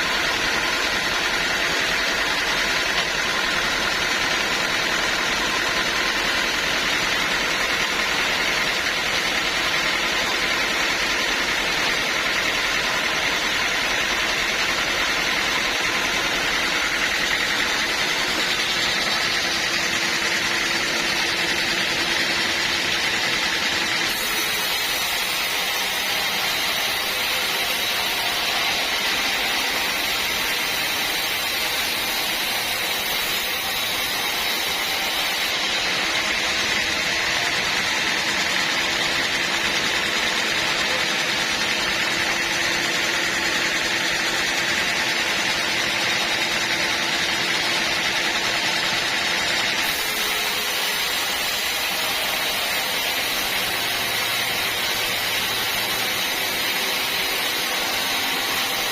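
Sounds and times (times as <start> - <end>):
sawmill machine hum: 0.0 - 58.9.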